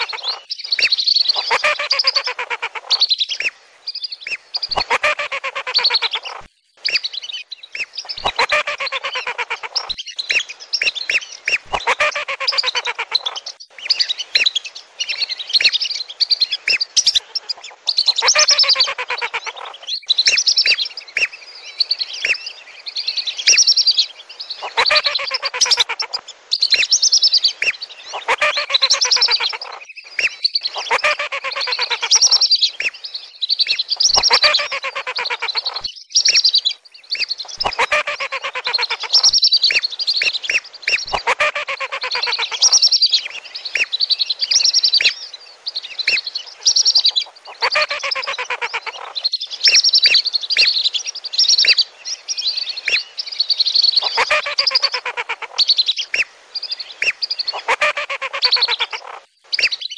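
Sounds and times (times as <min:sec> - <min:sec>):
whistling ducks calling: 0:00.0 - 0:03.6, 0:04.2 - 0:22.5, 0:24.6 - 0:33.0, 0:33.6 - 0:45.3, 0:45.9 - 0:51.9, 0:52.8 - 0:59.9.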